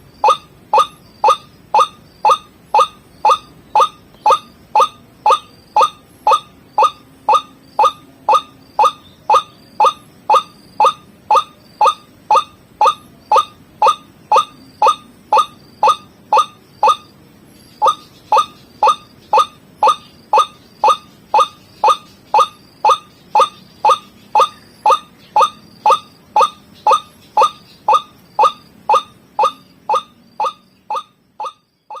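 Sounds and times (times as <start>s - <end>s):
bird calling short repeated notes: 0.2s - 17.1s, 17.8s - 32.0s.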